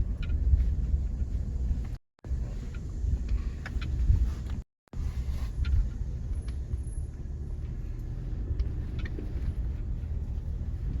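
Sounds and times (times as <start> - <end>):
vehicle engine rumble inside cabin: 0.0 - 11.0.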